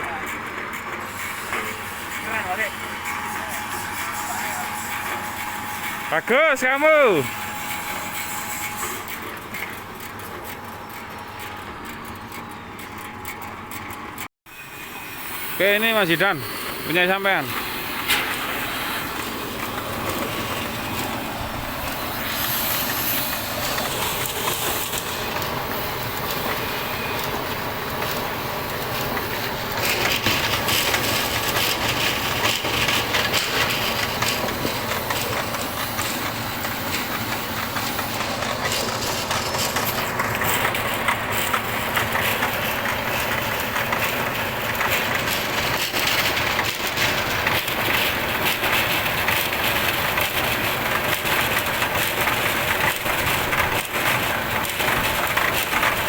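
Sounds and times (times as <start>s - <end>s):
pellet mill rattling: 0.0s - 5.2s, 5.8s - 14.3s, 15.6s - 56.0s.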